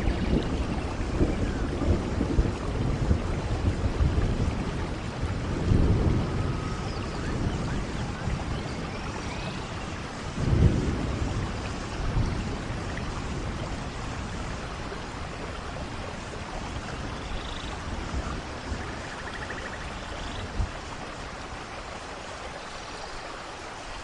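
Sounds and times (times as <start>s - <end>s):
low thunder rumble: 0.0s - 22.0s
heavy rain falling: 0.0s - 24.0s.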